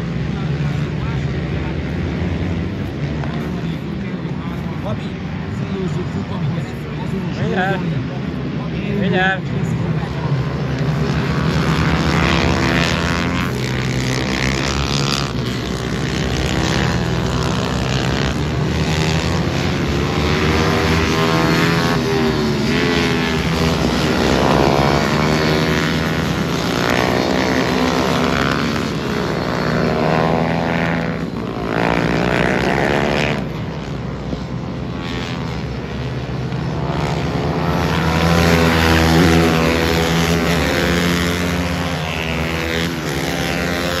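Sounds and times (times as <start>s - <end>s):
racing motorcycles revving: 0.0s - 44.0s.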